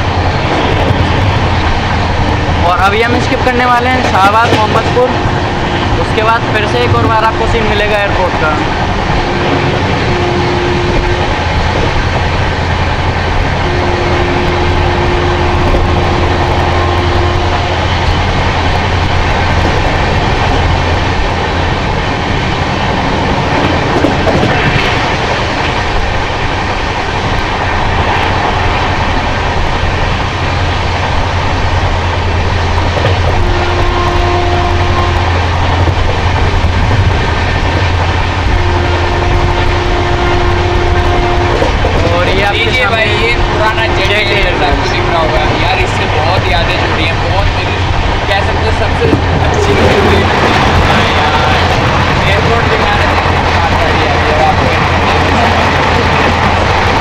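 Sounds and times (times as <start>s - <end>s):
train running at speed: 0.0s - 57.0s.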